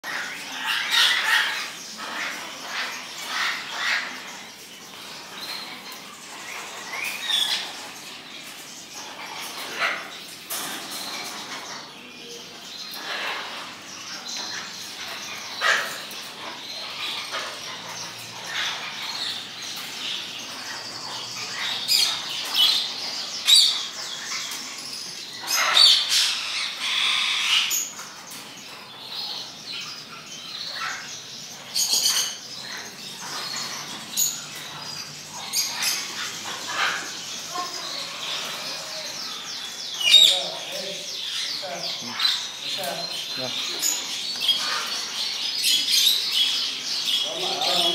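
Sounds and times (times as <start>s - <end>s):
caged birds squawking and chirping: 0.0s - 47.9s.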